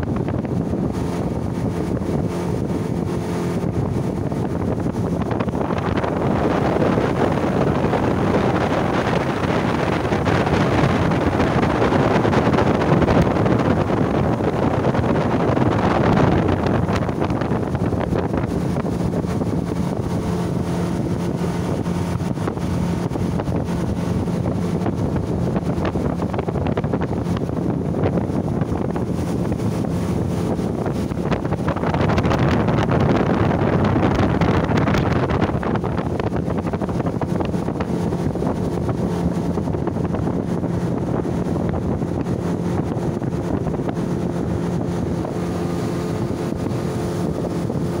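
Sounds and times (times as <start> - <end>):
speedboat engine running: 0.0 - 48.0
water rushing along hull: 0.0 - 48.0
wind buffeting microphone: 0.0 - 48.0.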